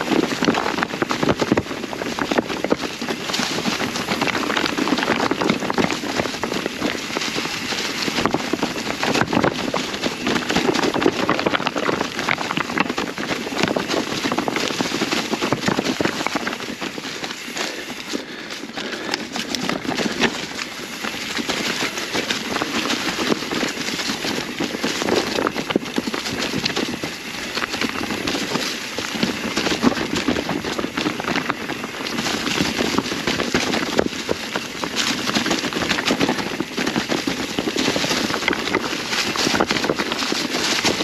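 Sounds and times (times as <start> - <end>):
bike tyres crunching dry leaves: 0.0 - 41.0.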